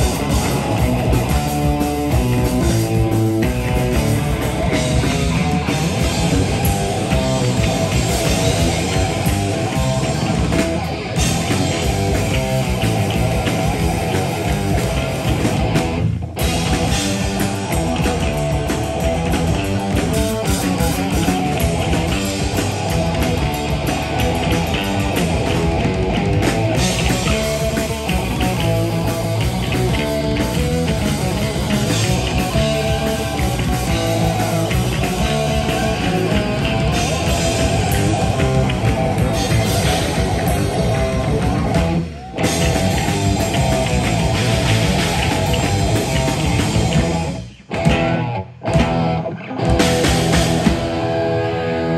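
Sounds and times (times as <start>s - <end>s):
heavy metal band playing: 0.0s - 51.9s.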